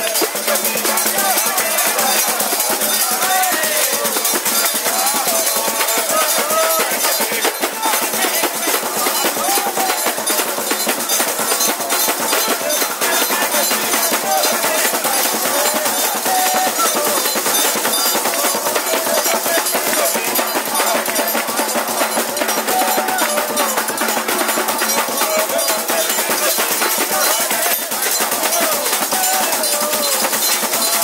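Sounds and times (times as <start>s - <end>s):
hand clapping: 0.0s - 31.0s
pandeiros and triangle beat: 0.0s - 31.0s
voices singing: 0.0s - 31.0s.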